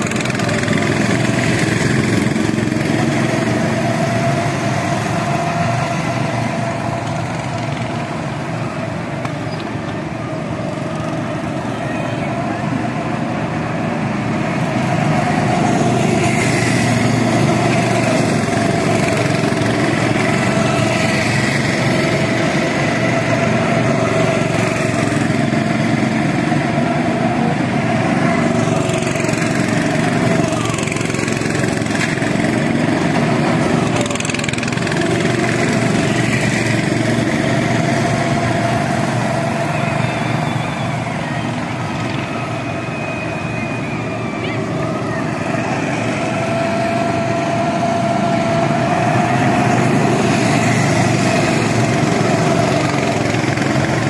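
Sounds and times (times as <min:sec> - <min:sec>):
go-kart engines droning: 0:00.0 - 0:54.0.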